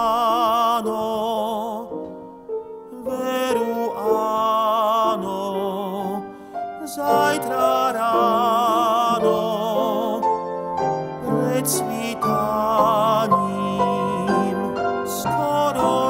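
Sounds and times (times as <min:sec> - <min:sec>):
man singing with vibrato: 0:00.0 - 0:02.2, 0:02.9 - 0:16.0
piano accompaniment: 0:00.0 - 0:16.0.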